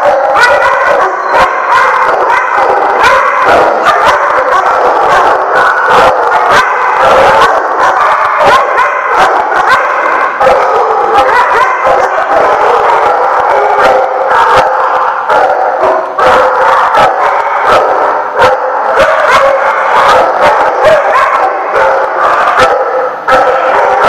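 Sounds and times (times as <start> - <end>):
dogs barking and yipping: 0.0 - 24.0.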